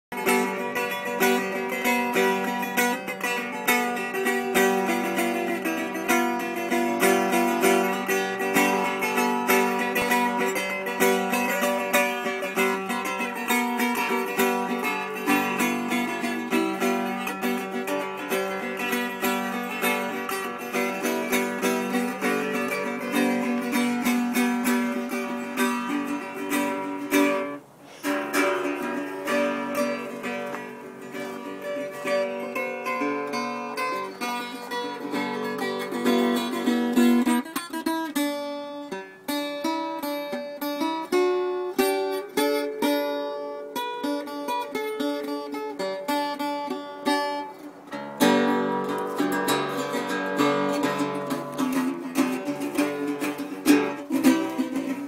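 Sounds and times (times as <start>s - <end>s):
resonator guitar picking: 0.1s - 55.0s.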